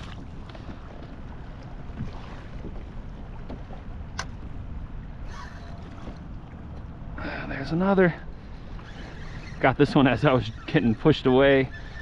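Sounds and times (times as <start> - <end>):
moving water: 0.0 - 12.0
wind: 0.0 - 12.0.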